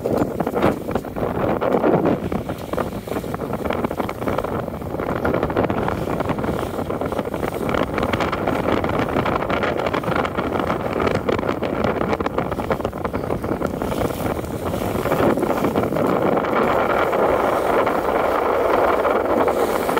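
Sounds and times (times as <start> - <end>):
boat engine running: 0.0 - 19.9
wind buffeting microphone: 0.0 - 19.9.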